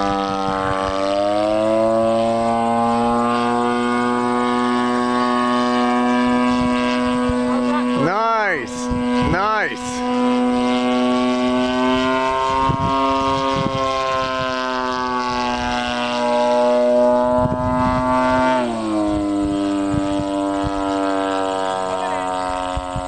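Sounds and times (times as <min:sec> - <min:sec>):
model airplane engine droning: 0:00.0 - 0:23.0.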